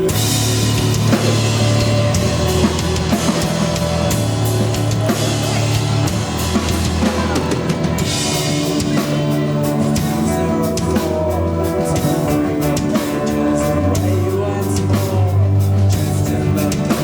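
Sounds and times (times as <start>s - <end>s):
drum kit with cymbals: 0.0s - 17.0s
live rock band playing: 0.0s - 17.0s
sustained bass line: 0.0s - 17.0s.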